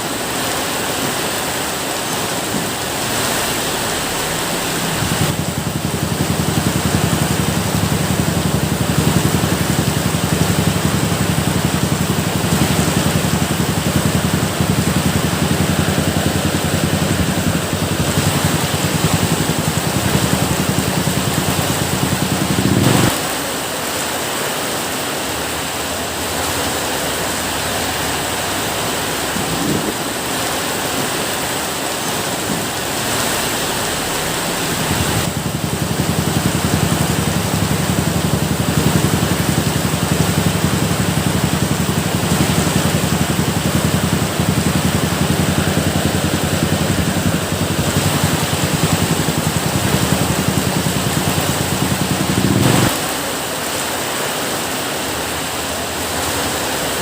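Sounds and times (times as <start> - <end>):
steady rain: 0.0 - 57.0
low hum: 1.2 - 24.0, 29.2 - 53.3.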